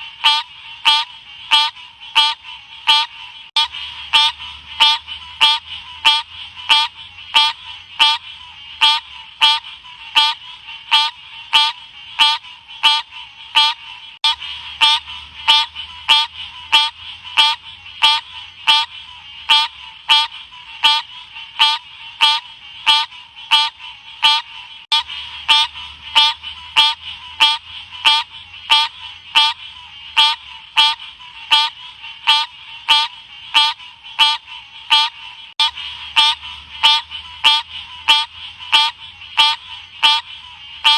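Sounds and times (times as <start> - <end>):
frog calling: 0.0 - 40.9.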